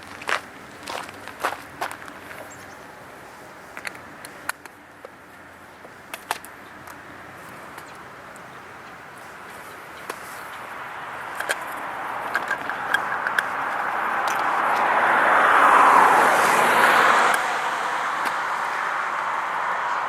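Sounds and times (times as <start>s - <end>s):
vehicle approaching: 0.0s - 20.0s.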